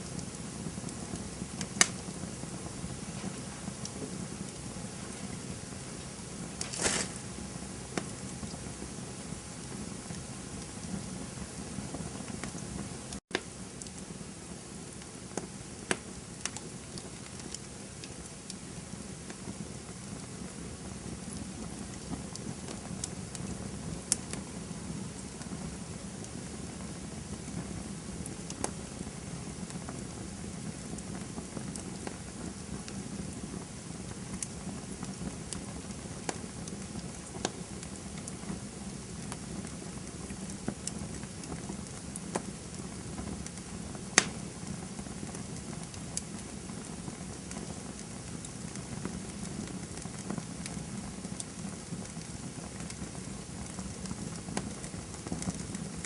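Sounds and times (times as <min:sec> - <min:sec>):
burning wood crackling and popping: 0:00.0 - 0:56.0
campfire flames rushing: 0:00.0 - 0:56.0.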